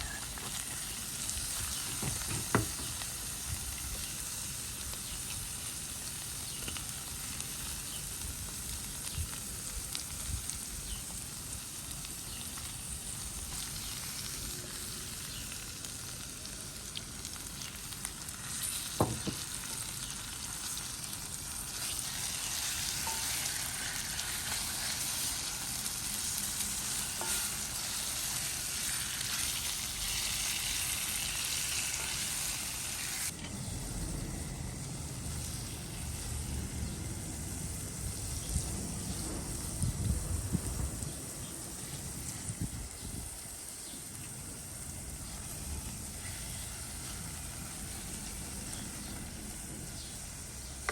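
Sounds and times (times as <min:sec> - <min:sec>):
food sizzling in hot oil: 0:00.0 - 0:50.9.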